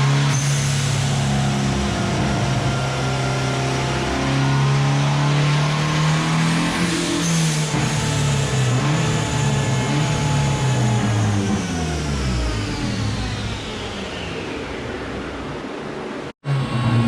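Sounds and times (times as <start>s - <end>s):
turbocharged engine running: 0.0s - 14.8s.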